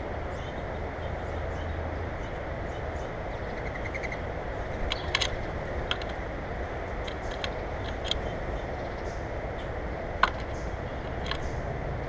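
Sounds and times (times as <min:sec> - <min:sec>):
low rumble of background noise: 0:00.0 - 0:12.0.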